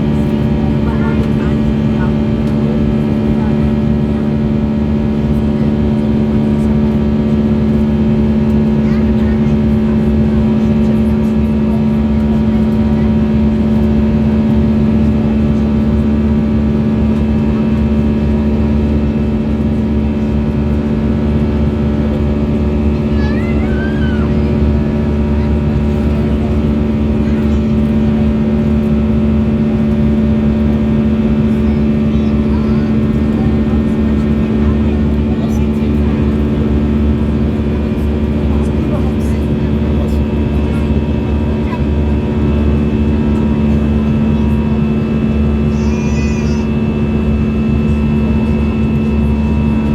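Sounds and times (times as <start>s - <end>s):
jet engine cabin drone: 0.0s - 49.9s.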